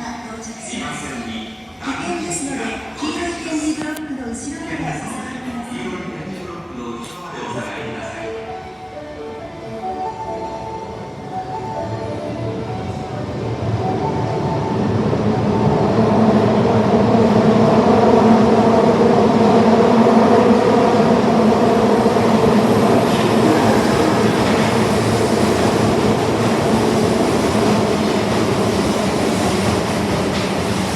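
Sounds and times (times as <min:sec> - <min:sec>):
subway train running: 0:00.0 - 0:30.9.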